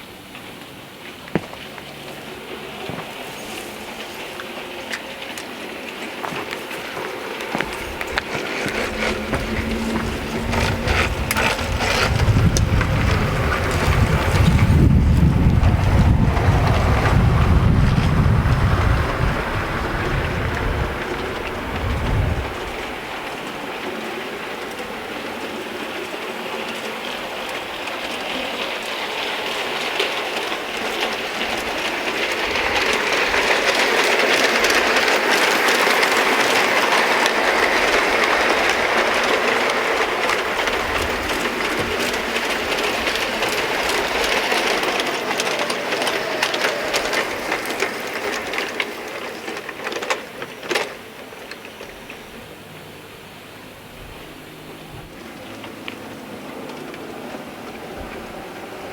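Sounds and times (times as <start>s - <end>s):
model train wheels rumbling: 0.0s - 58.9s.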